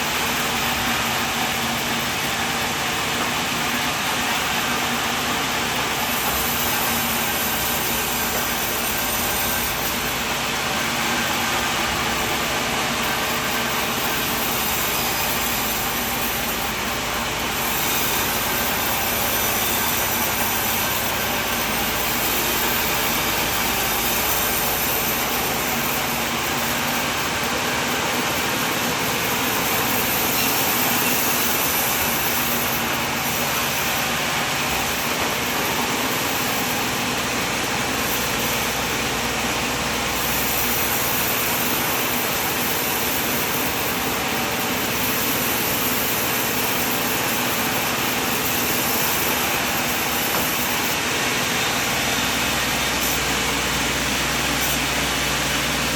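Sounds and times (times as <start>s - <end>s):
sawmill machine running: 0.0s - 55.9s.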